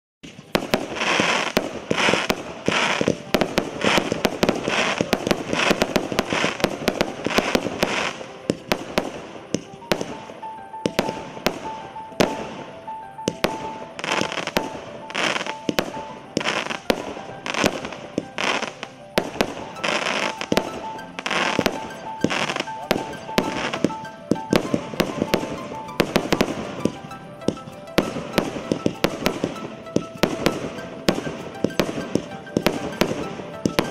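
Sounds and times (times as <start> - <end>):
firework stars bursting: 0.2 - 33.9.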